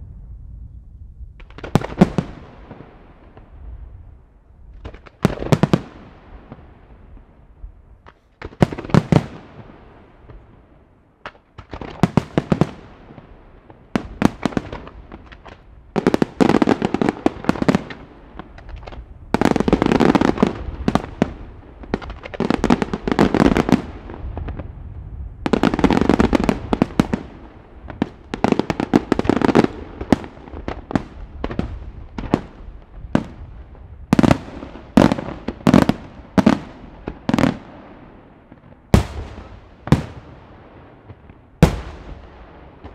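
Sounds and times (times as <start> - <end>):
fireworks exploding in rapid volleys: 1.4 - 3.6, 4.7 - 7.4, 8.0 - 42.9.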